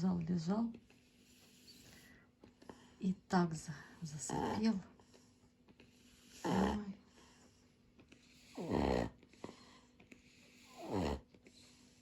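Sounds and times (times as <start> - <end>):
dog snoring: 0.9 - 3.0, 4.2 - 12.0.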